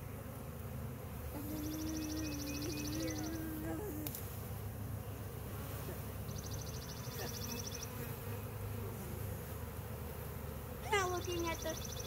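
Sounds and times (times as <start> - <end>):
bee buzzing: 0.0 - 12.0.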